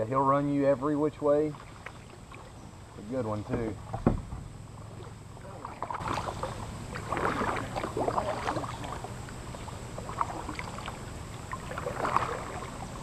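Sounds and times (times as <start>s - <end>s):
low steady hum: 0.0s - 13.0s
water splashing around kayak: 0.4s - 13.0s.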